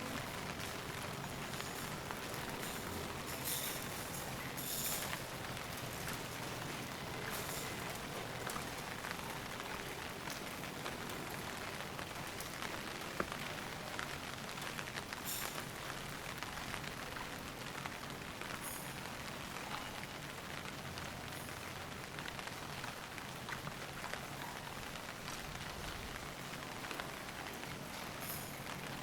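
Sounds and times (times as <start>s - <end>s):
rain pattering: 0.0s - 29.0s.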